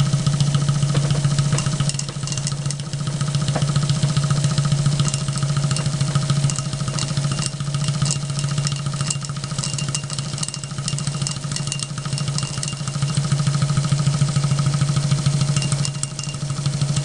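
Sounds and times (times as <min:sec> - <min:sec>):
model steam engine pulsing: 0:00.0 - 0:17.0
ticking clatter of moving parts: 0:00.8 - 0:13.5, 0:15.4 - 0:17.0.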